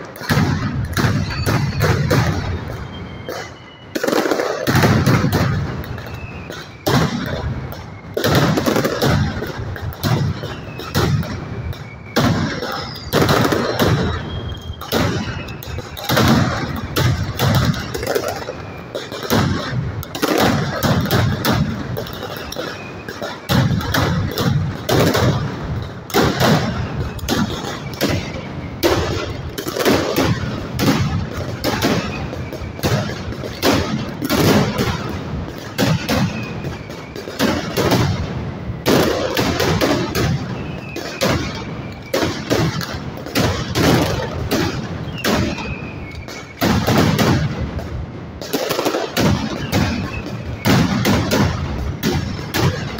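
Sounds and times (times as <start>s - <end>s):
firecrackers banging rapidly: 0.0s - 52.9s
falling whistles: 0.1s - 24.4s, 26.6s - 38.2s, 40.0s - 43.0s, 44.0s - 47.0s, 49.4s - 52.0s.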